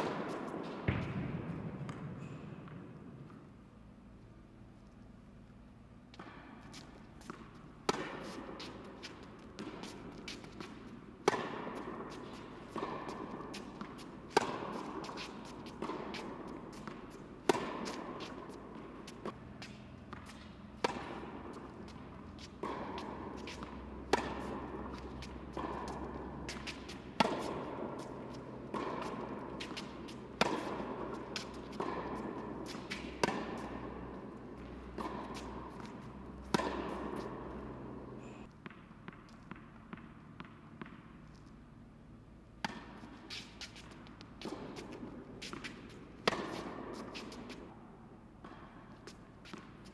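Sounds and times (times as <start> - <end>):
racket hitting tennis ball: 0.0 - 3.6, 6.1 - 41.7, 42.5 - 49.9.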